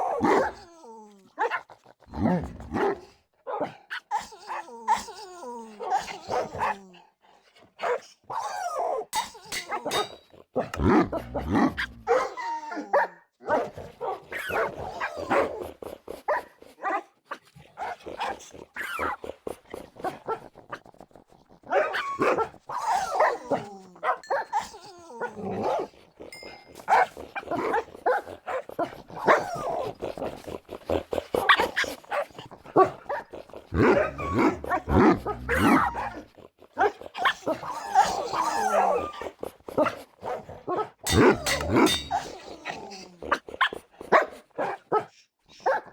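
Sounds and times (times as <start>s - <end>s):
dogs barking and whining: 0.0s - 1.8s, 2.4s - 6.9s, 7.8s - 17.0s, 21.6s - 30.5s, 31.3s - 45.9s.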